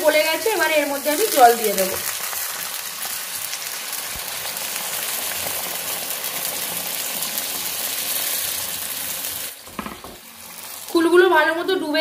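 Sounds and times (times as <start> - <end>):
hot oil sizzling and splashing: 0.0 - 12.0
water pouring into frying pan: 0.8 - 11.0.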